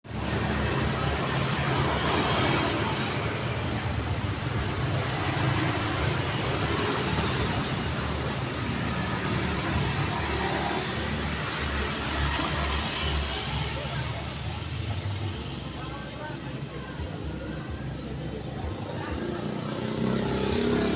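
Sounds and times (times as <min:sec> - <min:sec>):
tyre and road noise: 0:00.0 - 0:20.9
cars passing: 0:00.1 - 0:20.9.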